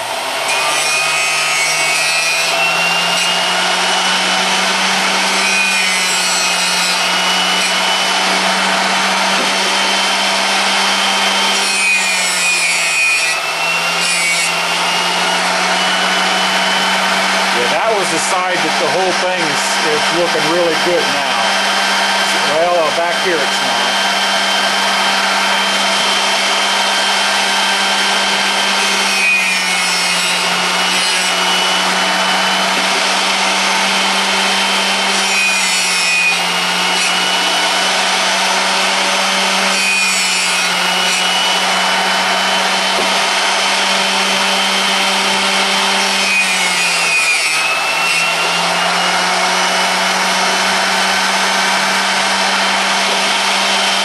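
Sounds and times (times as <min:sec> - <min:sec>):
grinder motor humming: 0:00.0 - 0:54.0
grinding wheel rasping on drill bit: 0:00.0 - 0:54.0.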